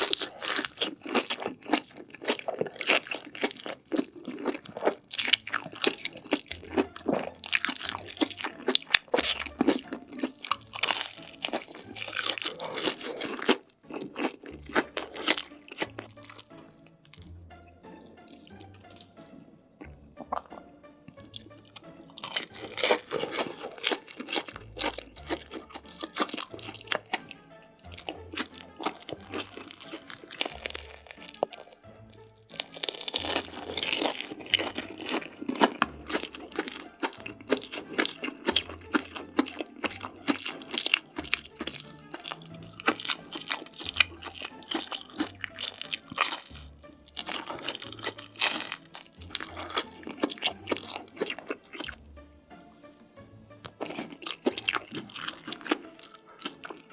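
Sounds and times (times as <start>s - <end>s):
crunching and chewing crisp food: 0.0s - 52.0s, 53.5s - 56.9s
background music with low beat: 0.0s - 56.9s.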